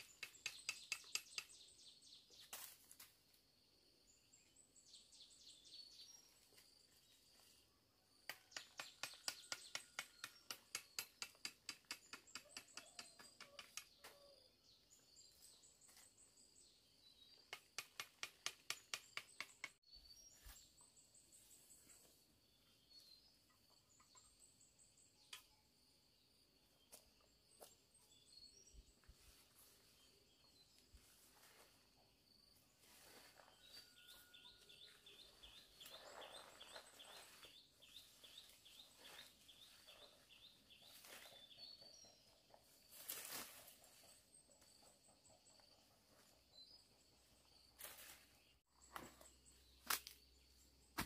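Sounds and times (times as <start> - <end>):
wild birds chirping: 3.7 - 51.0.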